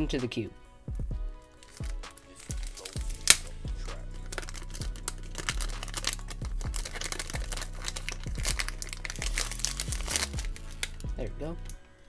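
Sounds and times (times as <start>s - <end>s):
background music beat: 0.0s - 12.0s
plastic wrap crinkling and tearing: 1.4s - 12.0s.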